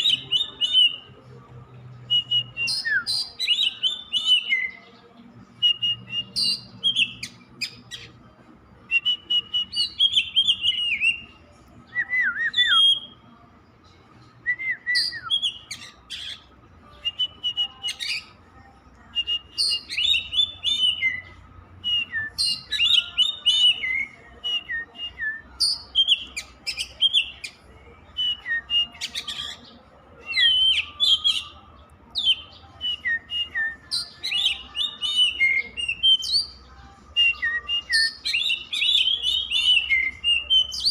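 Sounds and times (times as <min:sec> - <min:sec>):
magpie-robin singing: 0:00.0 - 0:01.3, 0:02.0 - 0:08.3, 0:08.9 - 0:13.2, 0:13.8 - 0:40.9.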